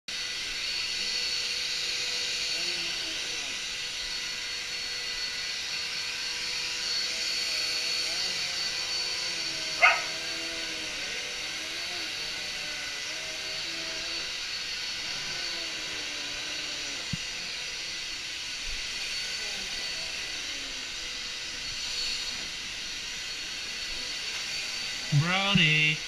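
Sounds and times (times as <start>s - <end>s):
vacuum cleaner running: 0.1s - 25.2s.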